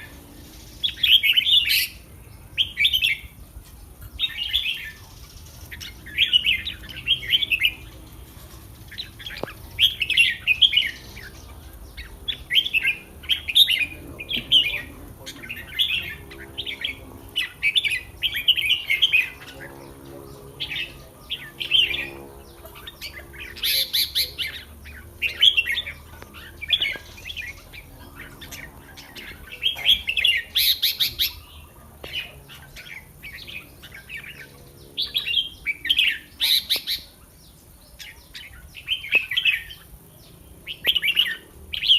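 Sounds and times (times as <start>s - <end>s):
bird singing chirpy phrases: 0.0s - 41.9s.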